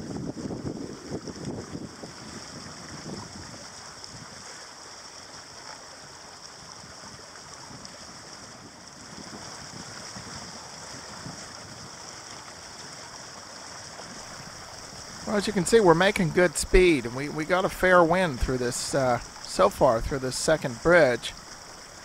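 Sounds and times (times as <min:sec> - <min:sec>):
wind on microphone: 0:00.0 - 0:04.5, 0:06.6 - 0:22.0
water rushing along hull: 0:00.0 - 0:22.0.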